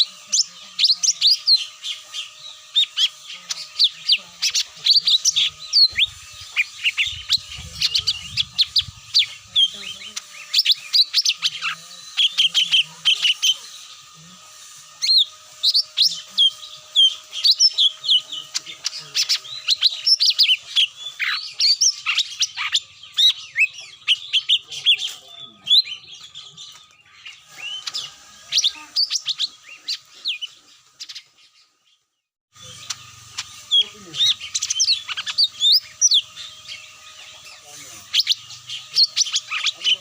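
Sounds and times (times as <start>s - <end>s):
bird chirps and whistled notes: 0.0s - 32.0s, 32.6s - 40.0s.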